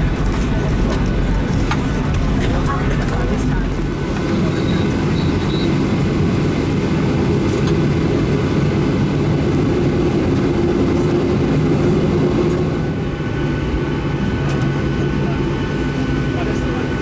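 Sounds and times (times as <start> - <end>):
jet engines idling in cabin: 0.0 - 17.0.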